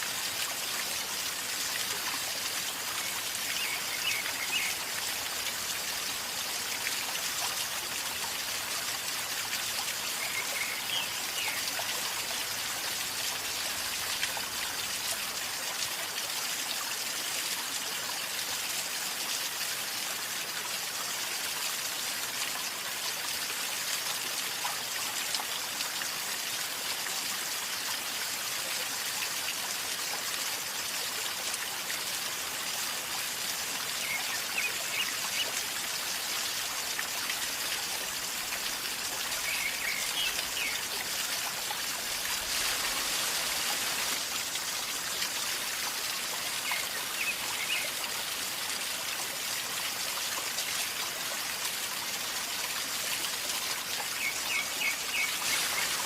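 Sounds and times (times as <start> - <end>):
river water gurgling and trickling: 0.0 - 56.0.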